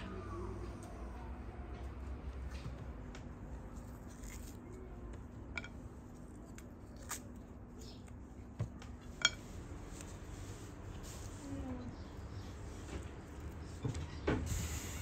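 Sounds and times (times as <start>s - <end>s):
soft fruit handling sounds: 0.6s - 14.2s.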